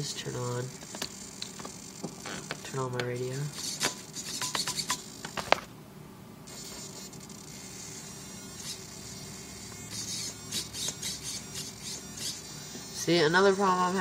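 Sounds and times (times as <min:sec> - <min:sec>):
high-pitched servo buzz: 0:00.0 - 0:05.5, 0:06.4 - 0:14.0.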